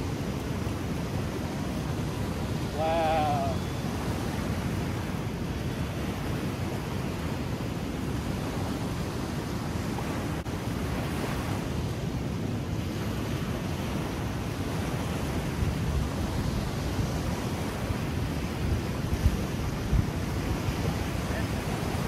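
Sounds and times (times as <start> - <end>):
choppy river water washing: 0.0 - 22.0
wind rumbling on microphone: 0.0 - 22.0.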